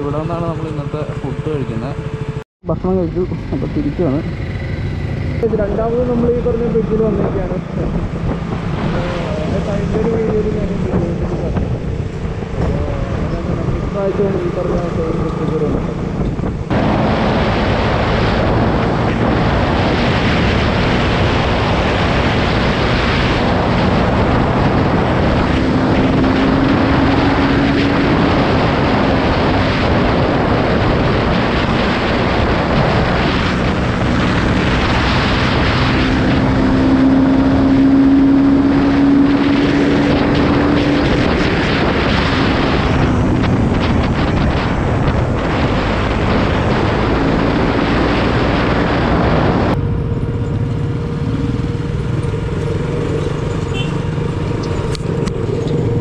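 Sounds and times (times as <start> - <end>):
motorcycle engine running: 0.0 - 56.0
wind rush on microphone: 3.2 - 56.0.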